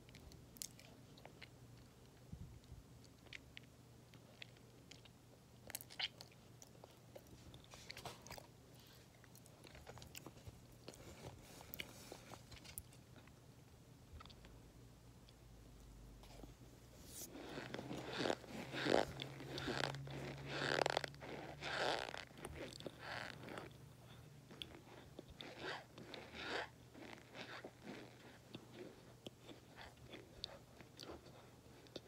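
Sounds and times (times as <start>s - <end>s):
person chewing and crunching: 0.0s - 2.2s, 3.0s - 13.3s, 17.2s - 32.0s.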